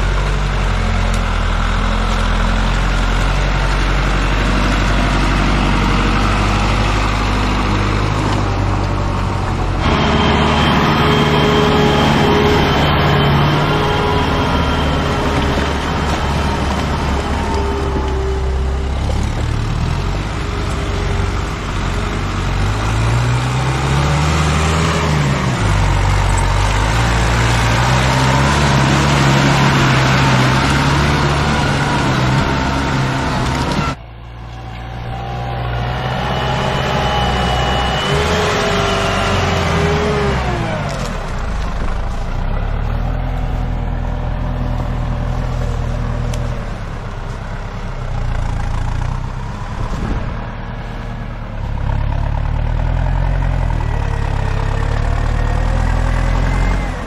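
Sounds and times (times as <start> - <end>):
diesel tractor engines revving: 0.0 - 57.0
tractor engine high whine: 0.0 - 57.0.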